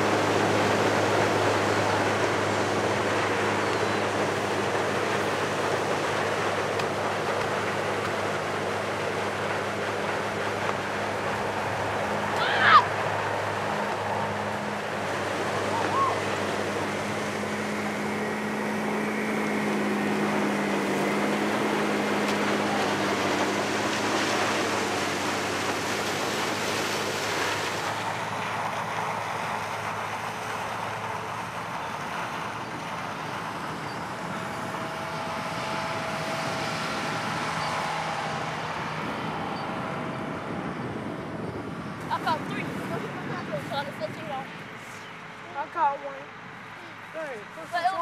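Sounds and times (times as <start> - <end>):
harvester engine hum: 0.0 - 48.0.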